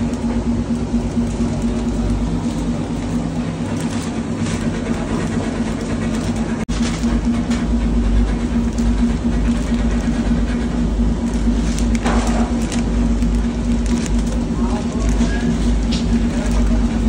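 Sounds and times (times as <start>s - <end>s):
bakery machinery rumble and hum: 0.0s - 17.0s
plastic bag crinkling: 0.0s - 17.0s.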